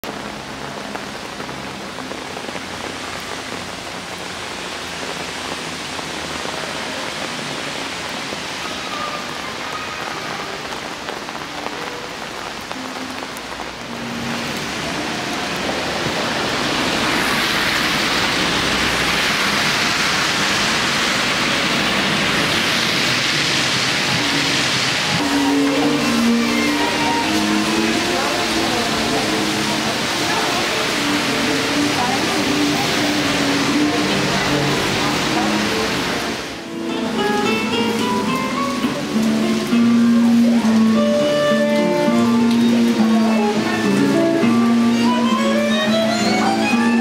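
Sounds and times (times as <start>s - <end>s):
rain on stone paving: 0.0s - 47.0s.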